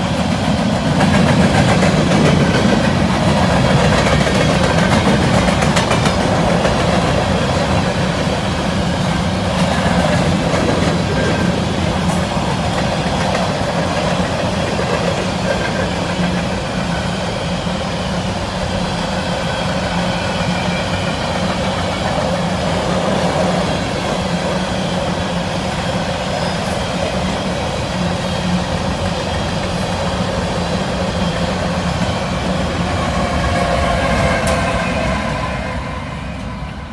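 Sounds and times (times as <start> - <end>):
diesel locomotive engine: 0.0 - 36.9
train wheels rumbling on rail: 0.0 - 36.9.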